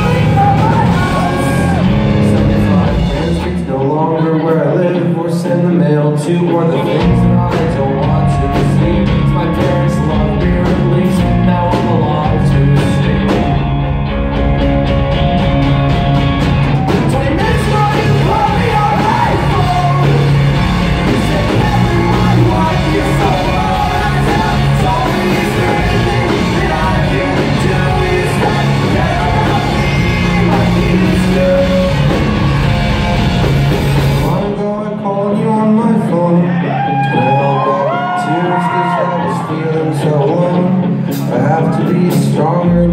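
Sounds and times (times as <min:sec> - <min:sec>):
person singing and shouting: 0:00.0 - 0:13.7, 0:16.9 - 0:33.2, 0:34.0 - 0:42.9
live rock band playing: 0:00.0 - 0:42.9.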